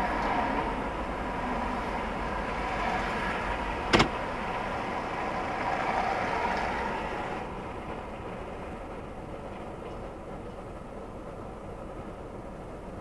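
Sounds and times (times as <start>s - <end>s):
traffic hum from inside car: 0.0s - 13.0s.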